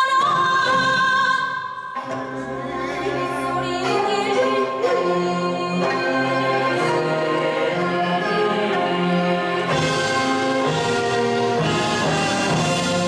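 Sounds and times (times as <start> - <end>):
brass band playing: 2.1 - 13.0.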